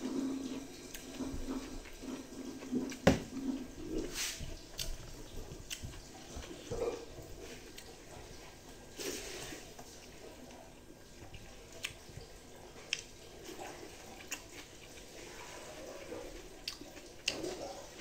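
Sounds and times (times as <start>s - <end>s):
wet chewing and mouth smacks: 0.5s - 8.6s, 9.8s - 18.0s.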